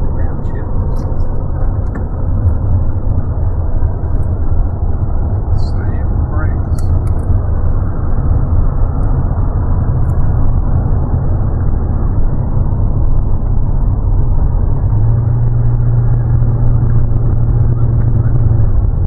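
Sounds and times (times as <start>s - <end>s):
low hum: 0.0s - 19.0s
road and engine rumble in car: 0.0s - 19.0s.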